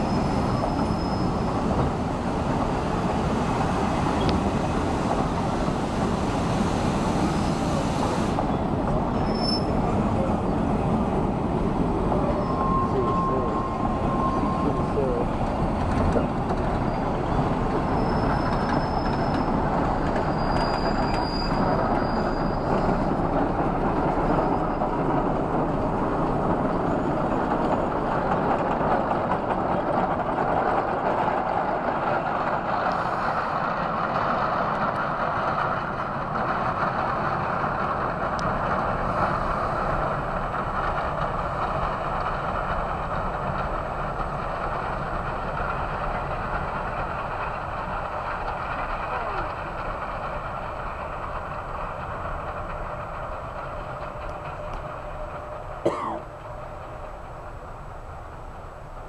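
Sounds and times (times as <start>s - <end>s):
train cars rumbling: 0.0s - 59.0s.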